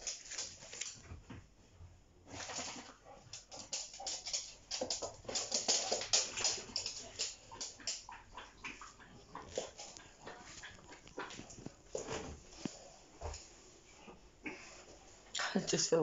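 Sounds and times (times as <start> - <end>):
dogs scuffling on hard floor: 0.0 - 1.5, 2.2 - 14.2.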